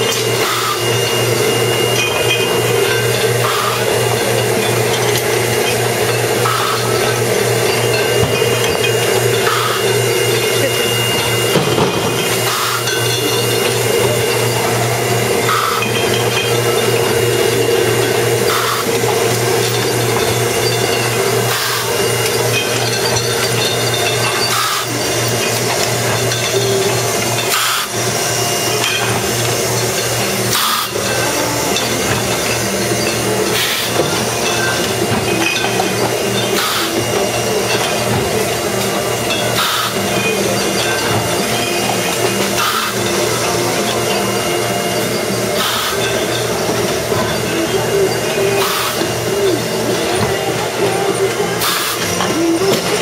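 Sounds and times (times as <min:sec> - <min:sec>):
bottling machinery humming: 0:00.0 - 0:53.0
machine cycling rush of noise: 0:00.0 - 0:53.0.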